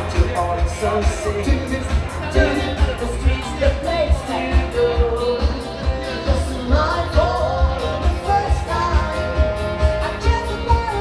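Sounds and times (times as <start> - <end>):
live band playing dance music: 0.0 - 11.0
person singing: 0.0 - 11.0.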